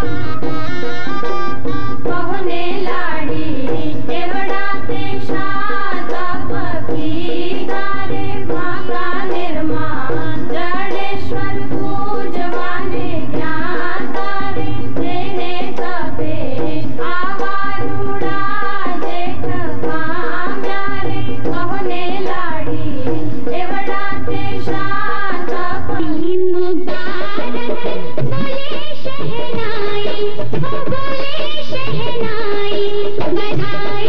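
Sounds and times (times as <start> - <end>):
person singing melody: 0.0 - 33.9
hand drums: 0.0 - 34.0.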